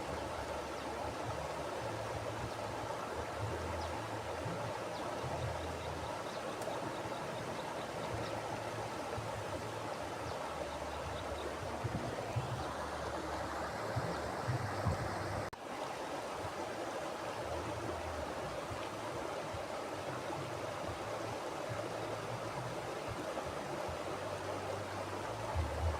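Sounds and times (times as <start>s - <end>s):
river flowing over rocks: 0.0s - 25.9s.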